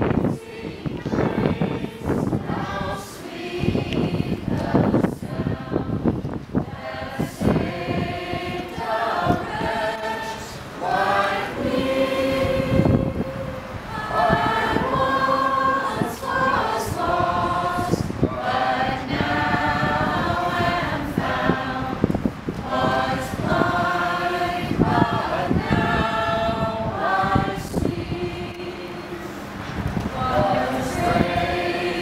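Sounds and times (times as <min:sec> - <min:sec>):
group of voices singing: 0:00.0 - 0:32.0
wind buffeting microphone: 0:00.0 - 0:32.0.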